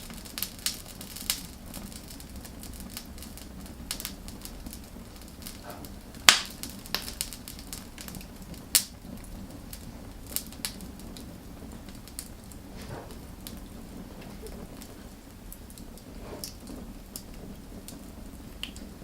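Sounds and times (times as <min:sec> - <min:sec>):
hiss of burning fire: 0:00.0 - 0:19.0
wood fire pops and snaps: 0:00.0 - 0:19.0.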